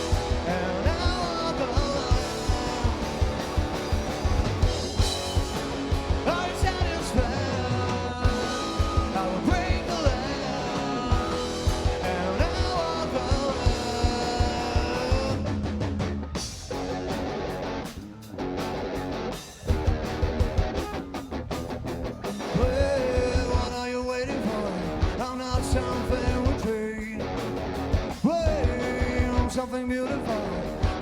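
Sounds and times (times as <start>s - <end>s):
rock band playing live: 0.0s - 31.0s
steady drum beat: 0.0s - 31.0s.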